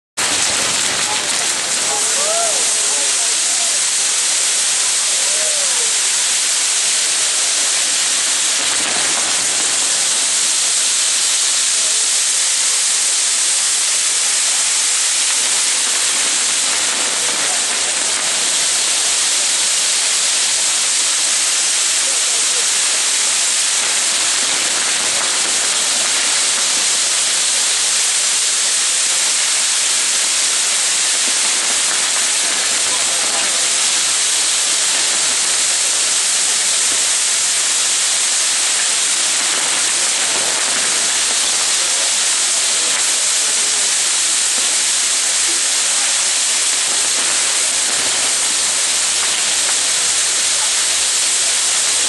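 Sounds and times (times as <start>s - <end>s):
fireworks hissing: 0.2s - 52.0s.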